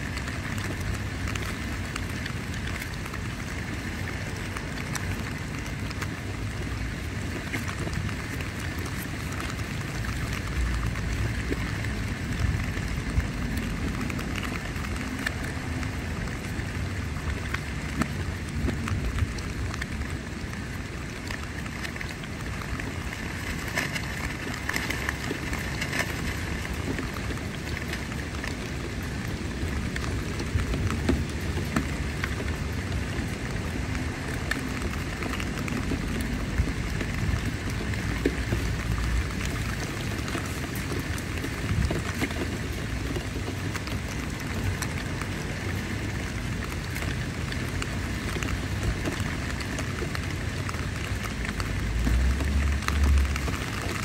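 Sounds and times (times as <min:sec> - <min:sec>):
low rumble of wind: 0:00.0 - 0:54.0
rain on tent fabric: 0:00.0 - 0:54.0.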